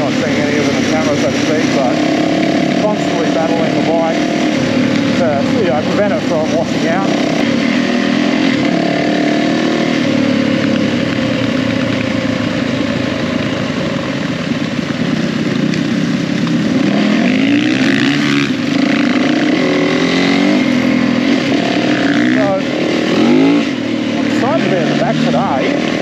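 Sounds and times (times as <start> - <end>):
motorcycle engine revving: 0.0 - 26.0
rush of noise: 0.0 - 26.0.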